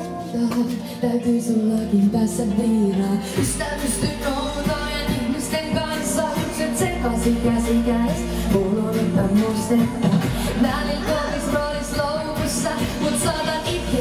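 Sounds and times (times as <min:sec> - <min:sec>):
pop beat and bass: 0:00.0 - 0:14.0
woman singing: 0:00.0 - 0:14.0.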